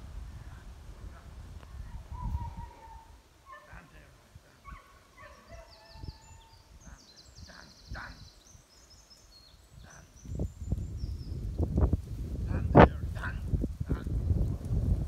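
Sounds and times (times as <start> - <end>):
low rumbling on the microphone: 0.0 - 8.4, 9.7 - 15.0
small birds singing: 0.5 - 14.1.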